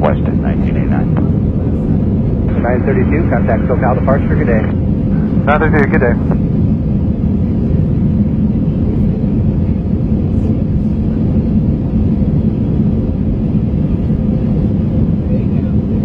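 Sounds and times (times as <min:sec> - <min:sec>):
airplane cabin engine roar: 0:00.0 - 0:16.0.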